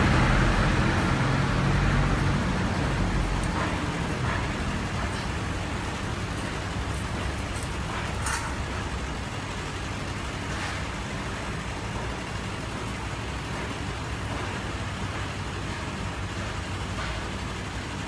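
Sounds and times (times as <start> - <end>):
street traffic engine hum: 0.0 - 18.0.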